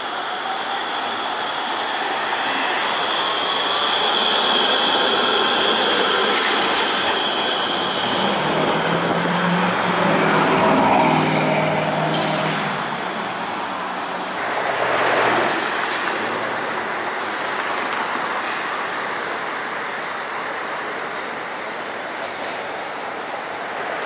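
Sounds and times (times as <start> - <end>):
road traffic: 0.0 - 24.0
streetcar hum: 0.0 - 24.0.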